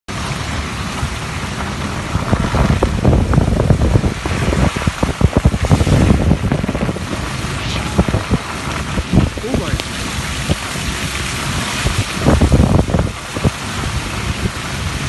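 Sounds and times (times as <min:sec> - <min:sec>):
heavy rain: 0:00.1 - 0:15.0.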